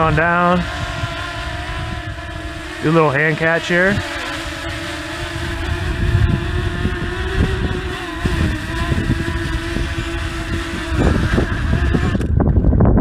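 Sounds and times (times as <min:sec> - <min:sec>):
drone propellers buzzing: 0:00.0 - 0:13.0
wind rumbling on microphone: 0:00.0 - 0:13.0.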